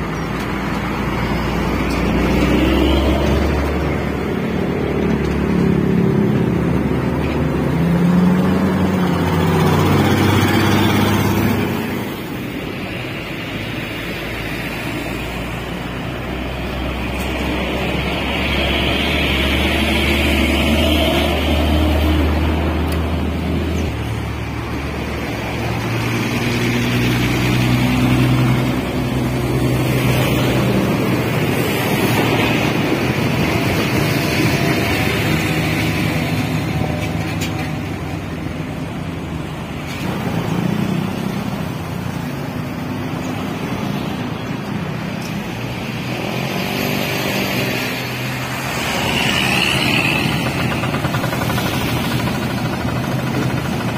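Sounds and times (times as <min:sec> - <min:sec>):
diesel engines droning: 0:00.0 - 0:53.9.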